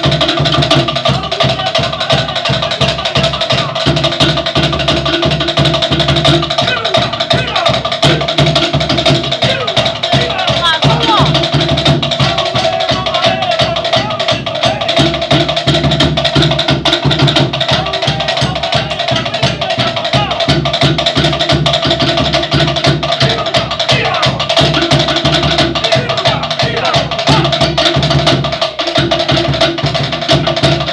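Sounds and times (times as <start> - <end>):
drum ensemble playing fast beat: 0.0 - 30.9.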